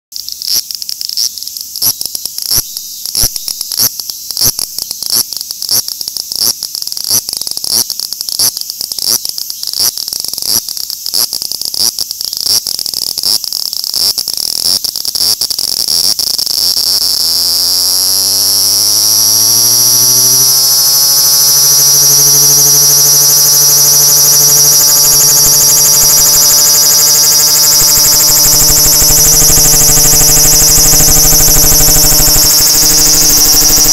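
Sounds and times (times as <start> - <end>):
cicada buzzing: 0.2 - 33.9.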